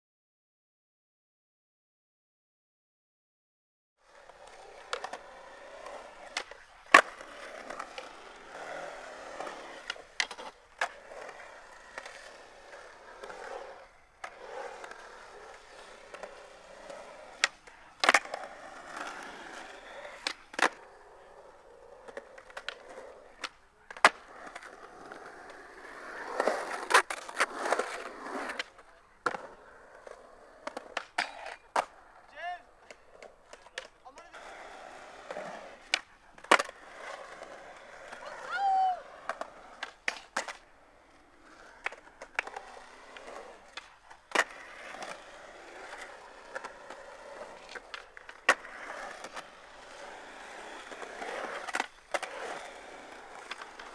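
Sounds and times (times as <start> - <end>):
skateboard wheels rolling on concrete: 4.0 - 53.9
skateboard clacks: 4.1 - 53.9.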